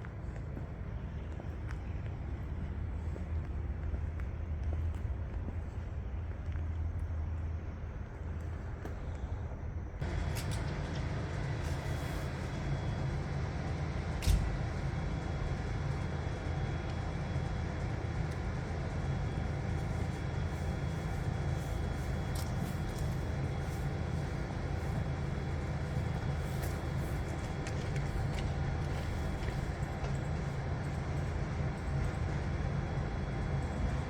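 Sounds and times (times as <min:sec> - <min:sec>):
passenger train rumbling: 0:00.0 - 0:34.0.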